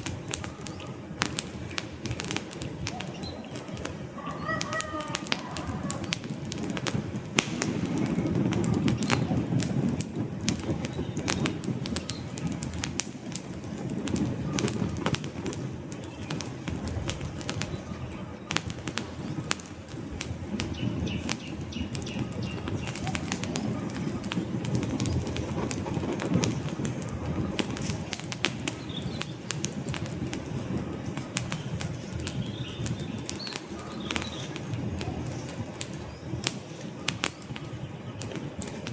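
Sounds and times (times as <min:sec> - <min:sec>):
logs crackling and popping: 0:00.0 - 0:38.9
low rumble of flames: 0:00.0 - 0:38.9.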